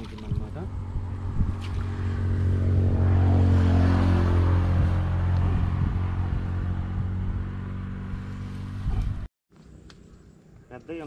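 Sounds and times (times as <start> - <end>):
engine humming: 0.0 - 10.7.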